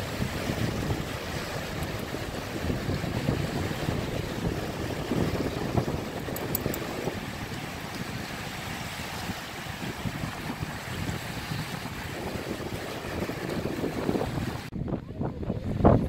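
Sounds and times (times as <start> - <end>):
small waves washing onto beach: 0.0 - 14.7
wind buffeting microphone: 0.0 - 16.0.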